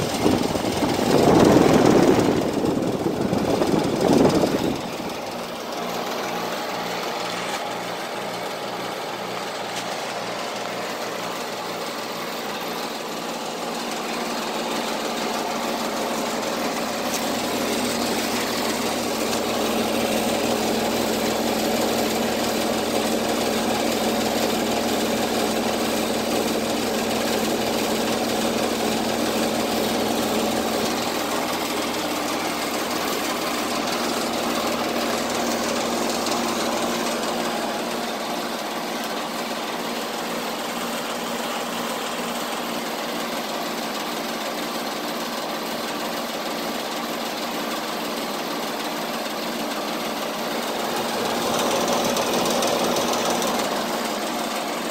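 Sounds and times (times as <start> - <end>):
heat pump humming: 0.0 - 54.9.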